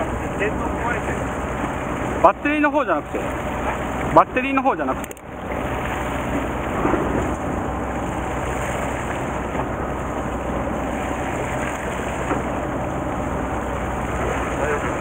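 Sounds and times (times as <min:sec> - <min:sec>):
boat engine humming: 0:00.0 - 0:15.0
sea water washing along hull: 0:00.0 - 0:15.0.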